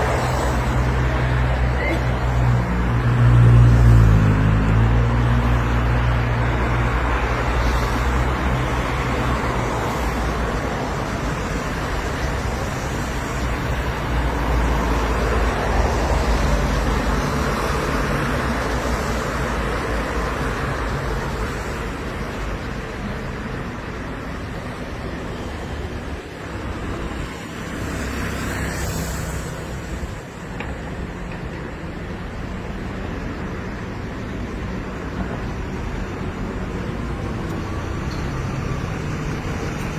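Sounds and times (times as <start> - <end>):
motor vehicles rumbling: 0.0 - 39.9.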